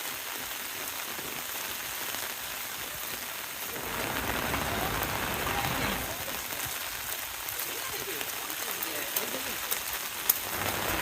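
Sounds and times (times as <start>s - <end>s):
heavy rain on an umbrella: 0.0s - 11.0s.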